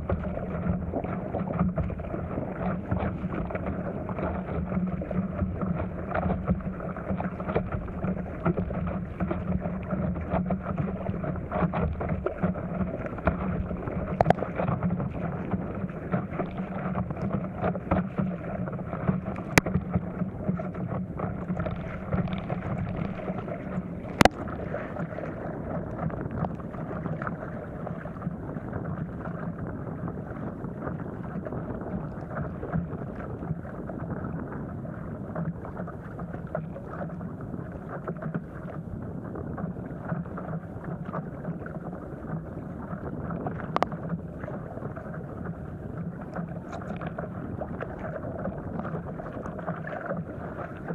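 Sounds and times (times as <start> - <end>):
water splashing against paddleboard: 0.0 - 50.9.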